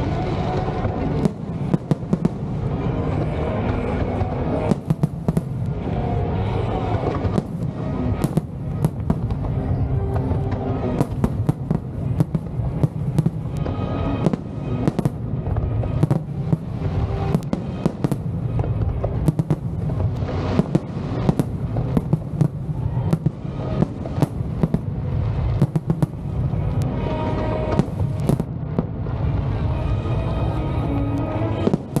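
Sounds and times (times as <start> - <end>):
continuous low rumble: 0.0 - 32.0
fireworks bangs and crackles: 0.0 - 32.0
music playing: 0.0 - 32.0.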